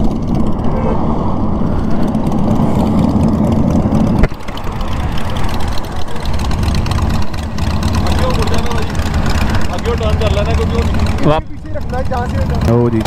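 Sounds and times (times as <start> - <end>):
motorcycle engine idling: 2.0 - 13.0.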